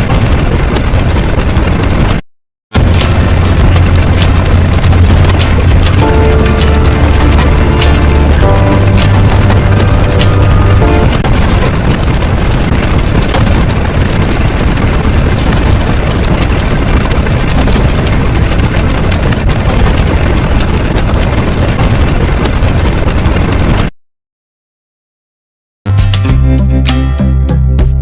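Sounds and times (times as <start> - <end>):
loud crackling rumble: 0.0 - 23.9.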